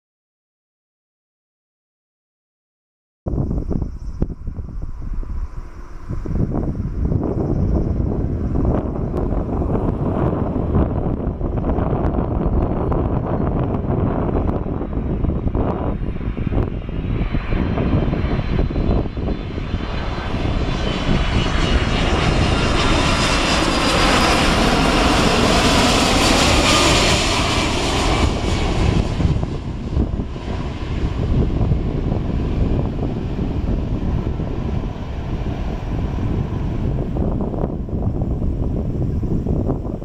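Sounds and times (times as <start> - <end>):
high jet engine whine: 3.3 - 40.0
jet airliner passing overhead: 3.3 - 40.0.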